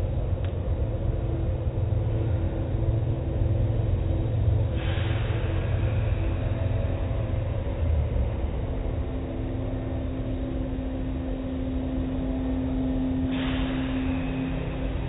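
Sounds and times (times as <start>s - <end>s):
car wash motor hum: 0.0s - 15.0s.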